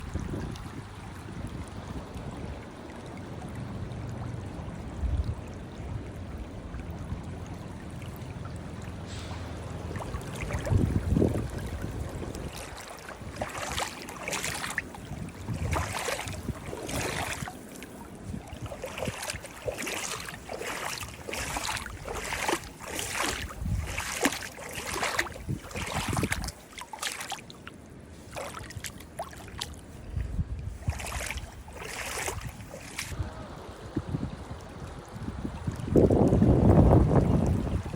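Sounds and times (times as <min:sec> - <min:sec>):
wind rumble on microphone: 0:00.0 - 0:26.7, 0:28.0 - 0:37.9
water splashing and trickling: 0:00.0 - 0:37.9.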